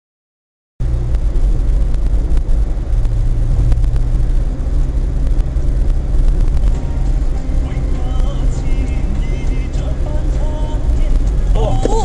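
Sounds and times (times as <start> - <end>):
car engine and tyres rumbling: 0.8 - 12.0.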